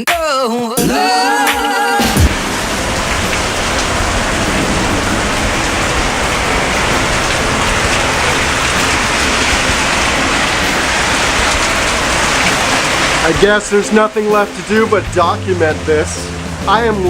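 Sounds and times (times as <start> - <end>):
heavy rain pouring: 0.8 - 17.0.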